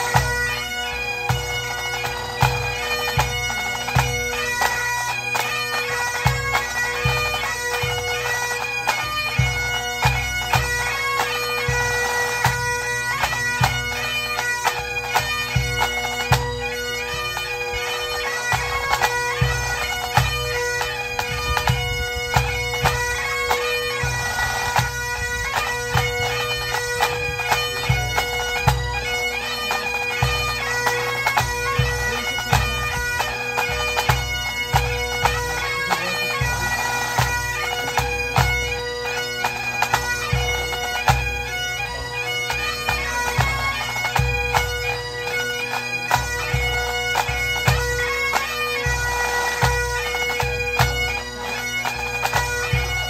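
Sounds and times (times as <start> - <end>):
bagpipes playing a tune: 0.0 - 53.0.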